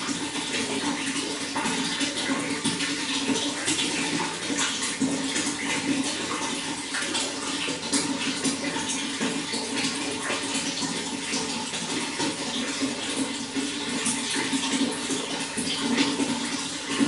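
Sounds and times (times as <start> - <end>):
running water with splashes: 0.0 - 17.0.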